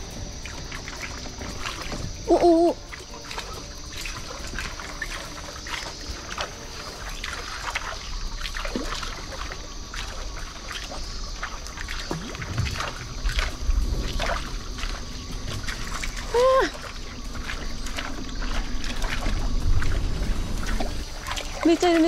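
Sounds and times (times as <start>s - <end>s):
fish swirling in water: 0.0s - 22.0s
small splashes on water: 0.0s - 22.0s.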